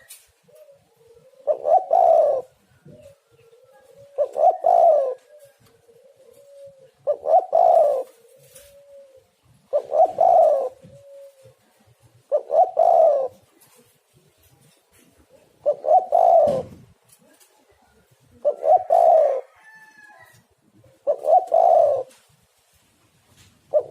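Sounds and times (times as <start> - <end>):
dove cooing: 0.0 - 22.3, 23.6 - 23.9.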